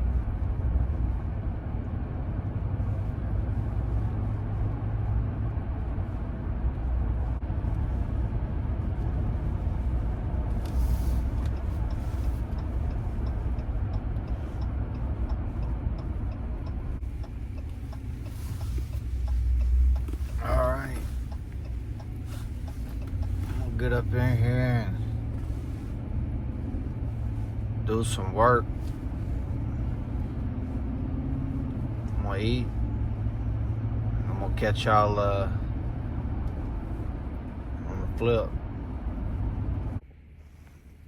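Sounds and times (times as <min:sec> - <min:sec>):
truck engine rumble inside cab: 0:00.0 - 0:41.0.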